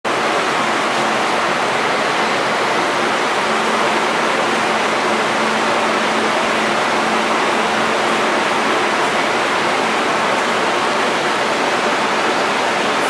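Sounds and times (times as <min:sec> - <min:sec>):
steady rushing noise: 0:00.1 - 0:13.0.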